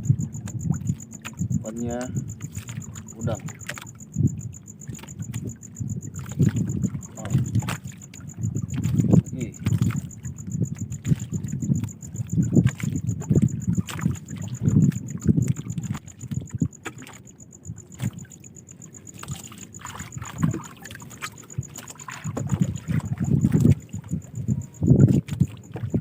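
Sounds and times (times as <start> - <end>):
water sloshing against boat hull: 0.0 - 26.0
wind on microphone: 0.0 - 26.0.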